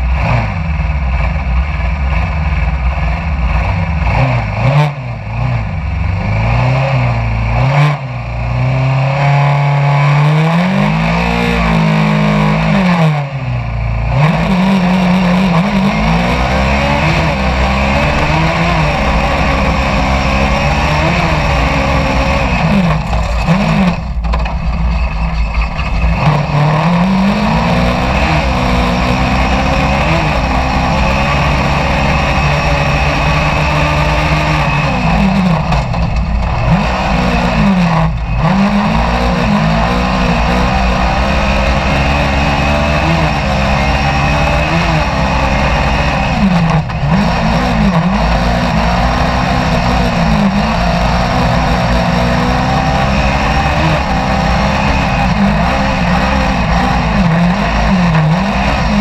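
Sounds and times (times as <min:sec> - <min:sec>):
car rumbling over dirt: 0:00.0 - 0:59.0
racing car engine revving: 0:00.0 - 0:59.0.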